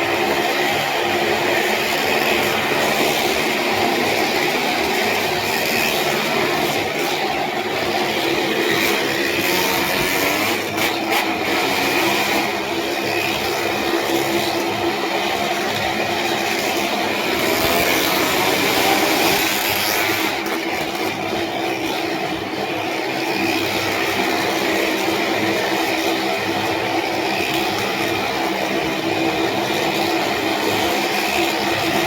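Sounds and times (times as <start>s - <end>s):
motorcycle and car engines running: 0.0s - 32.0s.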